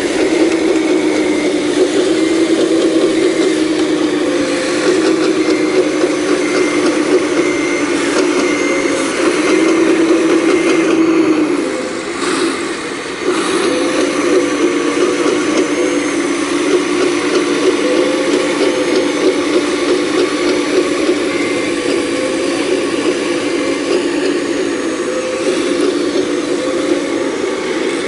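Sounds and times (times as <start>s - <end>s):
excavator engine drone: 0.0s - 28.0s
high whining tones: 0.0s - 28.0s.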